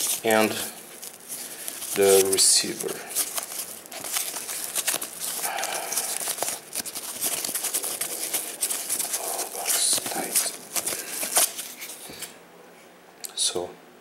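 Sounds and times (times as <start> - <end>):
foam packing sleeve crinkling: 0.0 - 12.3.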